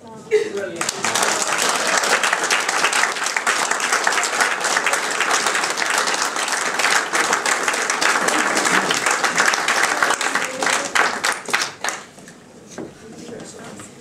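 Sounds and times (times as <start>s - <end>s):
crowd applauding: 0.7s - 12.2s.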